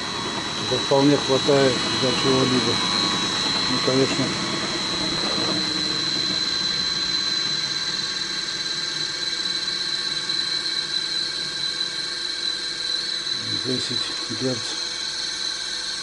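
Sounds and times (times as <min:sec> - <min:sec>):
drill press motor whine: 0:00.0 - 0:16.0.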